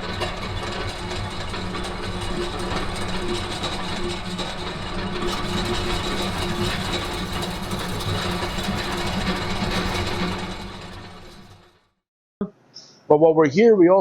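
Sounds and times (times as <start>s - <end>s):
industrial gearbox humming: 0.0s - 11.8s.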